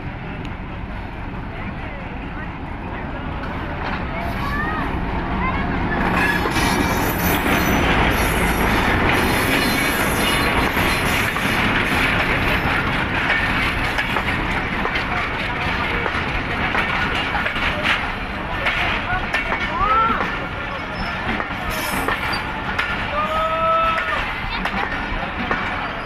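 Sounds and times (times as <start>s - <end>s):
diesel locomotive passing: 0.0s - 26.0s
train wheels clattering over rails: 2.5s - 26.0s.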